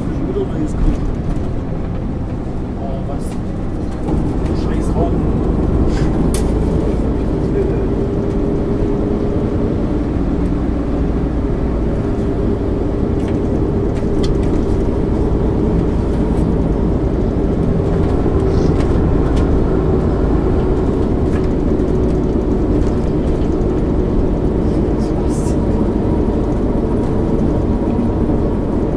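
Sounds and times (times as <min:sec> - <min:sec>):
bus diesel engine drone: 0:00.0 - 0:28.9
road noise: 0:00.0 - 0:28.9.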